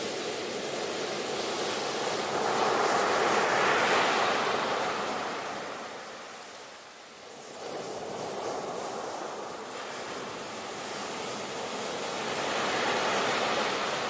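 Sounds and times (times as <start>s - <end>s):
ocean surf wave: 0.0s - 14.0s.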